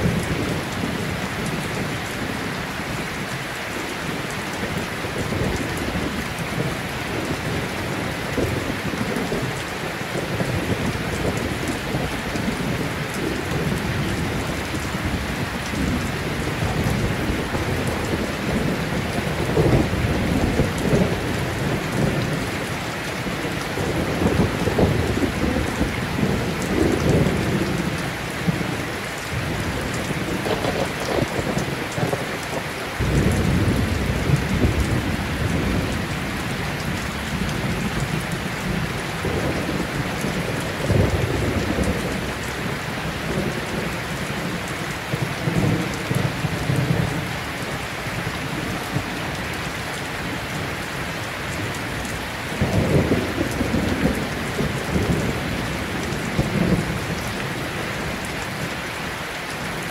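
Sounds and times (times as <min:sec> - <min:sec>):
steady rain: 0:00.0 - 0:59.9
low rumbles of thunder: 0:04.6 - 0:49.5, 0:51.6 - 0:58.8.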